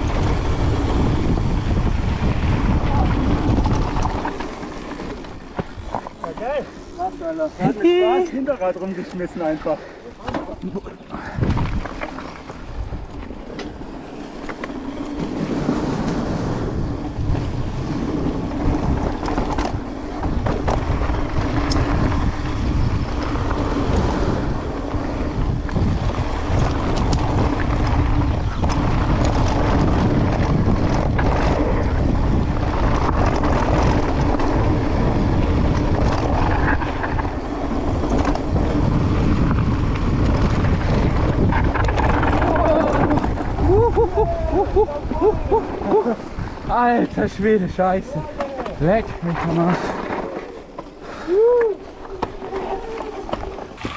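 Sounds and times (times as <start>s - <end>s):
wind rushing over microphone: 0.0s - 8.5s, 11.1s - 53.9s
bike clattering: 0.0s - 53.9s
tyres rumbling on dirt: 0.0s - 53.9s.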